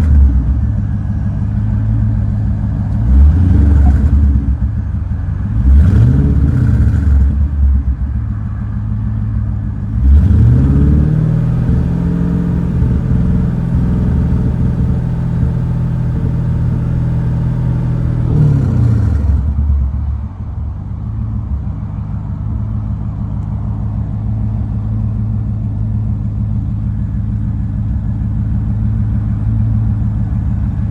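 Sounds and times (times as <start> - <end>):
car engine revving and idling: 0.0 - 30.9.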